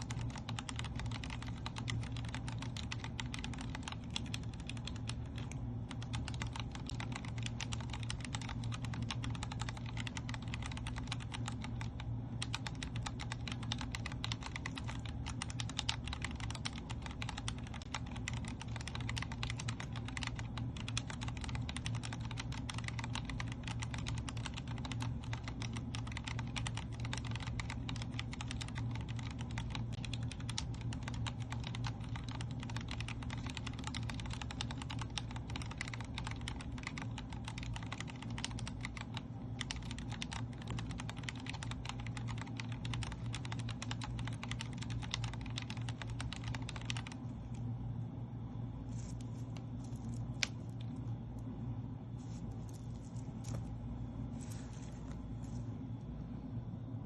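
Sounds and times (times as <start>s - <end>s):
fast typing on mechanical keyboard: 0.0s - 47.5s.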